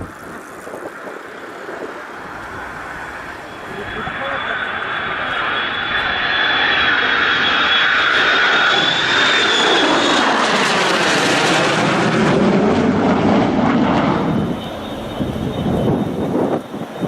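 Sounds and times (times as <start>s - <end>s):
jets flying past: 0.0s - 17.0s.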